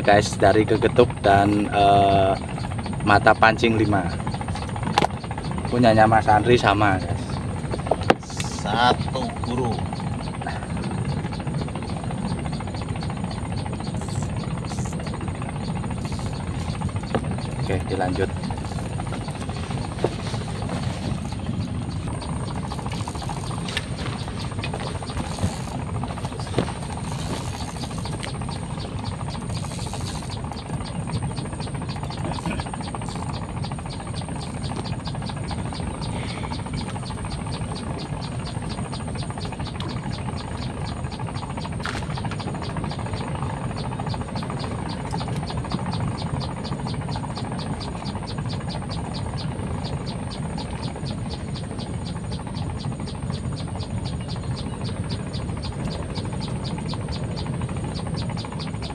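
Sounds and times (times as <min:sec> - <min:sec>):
insects chirping: 0:00.0 - 0:58.9
low steady rumble: 0:00.0 - 0:58.9.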